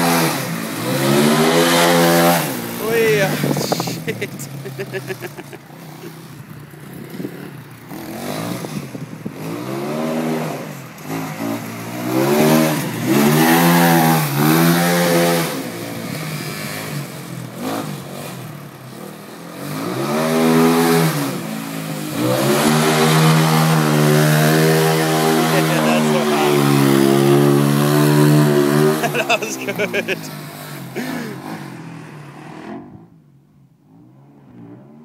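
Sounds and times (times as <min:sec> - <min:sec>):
quad engine revving hard: 0:00.0 - 0:33.0.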